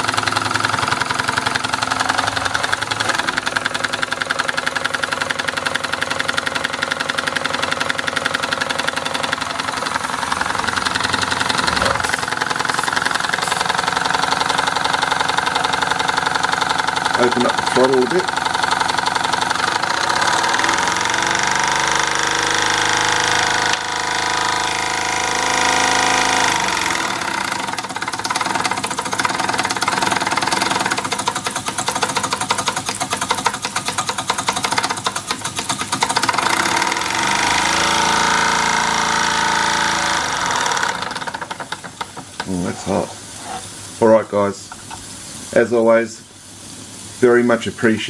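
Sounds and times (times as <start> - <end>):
toy steam engine running: 0.0 - 43.1.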